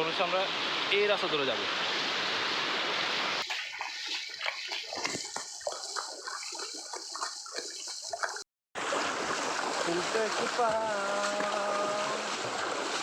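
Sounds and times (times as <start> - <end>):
stream splashing over rocks: 0.0 - 13.0.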